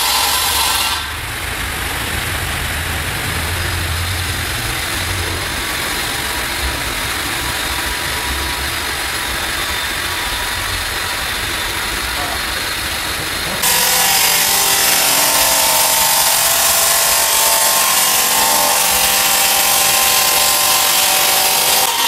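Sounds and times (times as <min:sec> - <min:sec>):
saw blade cutting stone: 0:00.0 - 0:01.2, 0:03.6 - 0:22.0.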